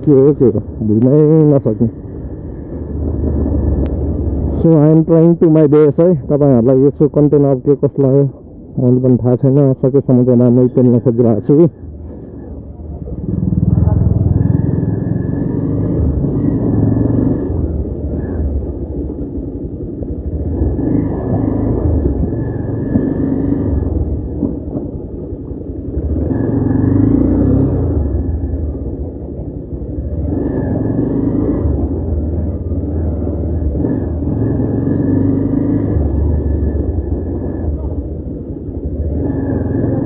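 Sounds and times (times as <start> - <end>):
motorcycle engine rumbling: 0.0 - 40.0.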